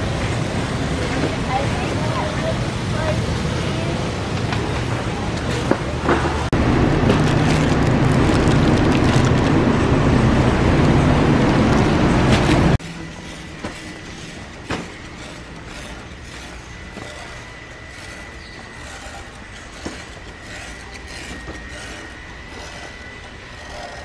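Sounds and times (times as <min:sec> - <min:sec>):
store background noise: 0:00.0 - 0:24.0.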